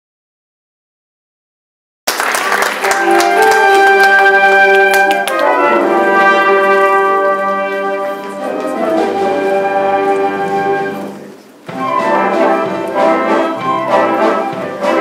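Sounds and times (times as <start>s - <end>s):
orchestra playing a waltz: 2.8s - 15.0s.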